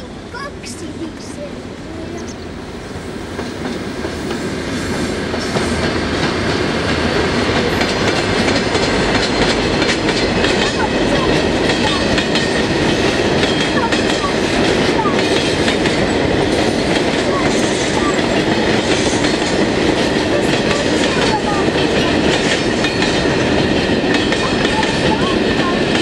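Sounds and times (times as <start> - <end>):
train rumble: 0.0 - 26.0
wheels clickety-clack on rails: 0.3 - 26.0.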